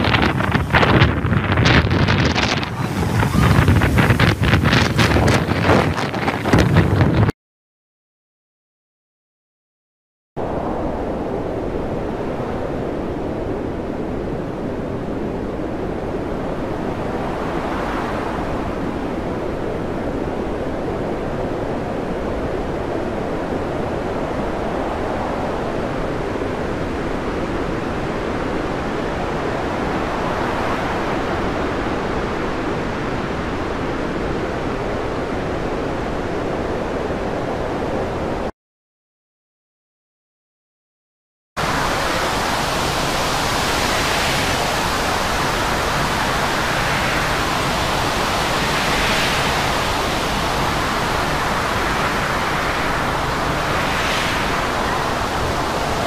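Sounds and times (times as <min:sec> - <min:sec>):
heavy sea: 0:00.0 - 0:07.3, 0:10.4 - 0:38.5, 0:41.6 - 0:56.0
storm wind: 0:00.0 - 0:07.3, 0:10.4 - 0:38.5, 0:41.6 - 0:56.0.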